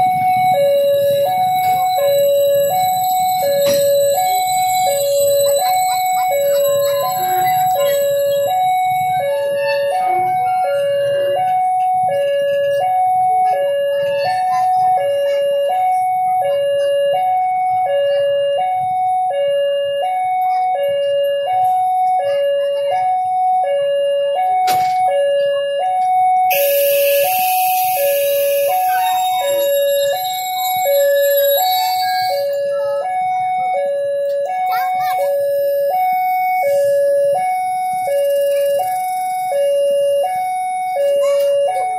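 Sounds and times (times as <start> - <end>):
level crossing two-note alarm: 0.0 - 41.9.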